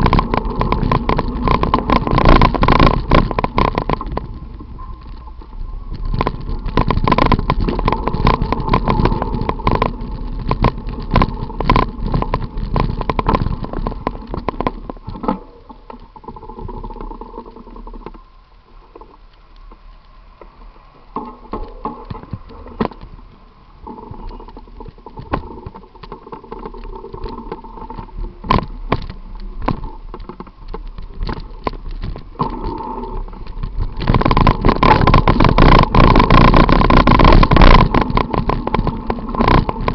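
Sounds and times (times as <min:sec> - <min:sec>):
mid-pitched hum: 0:00.0 - 0:39.9
wind rumble: 0:00.0 - 0:39.9.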